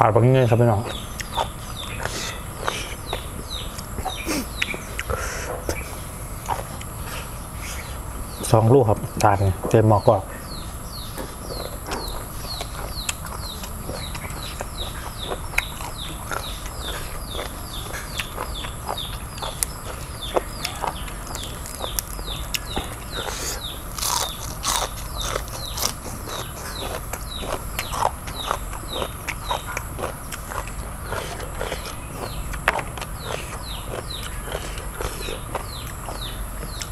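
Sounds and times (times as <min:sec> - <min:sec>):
bird chirping: 0:00.0 - 0:36.9
chewing crisp food: 0:00.8 - 0:08.0, 0:10.5 - 0:36.9.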